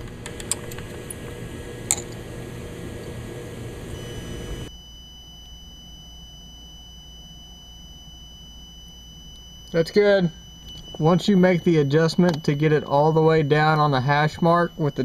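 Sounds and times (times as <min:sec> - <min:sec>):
steady hum: 0:00.0 - 0:15.0
high-pitched electronic tone: 0:02.7 - 0:15.0.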